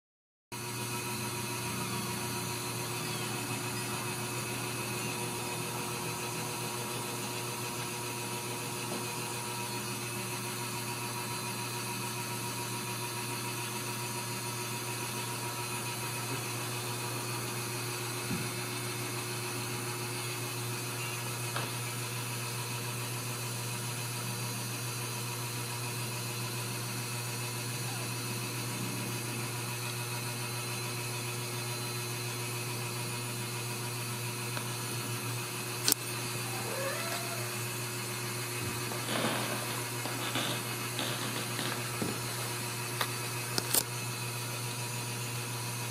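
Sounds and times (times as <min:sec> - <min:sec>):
mechanical hum and hiss: 0:00.6 - 0:45.9.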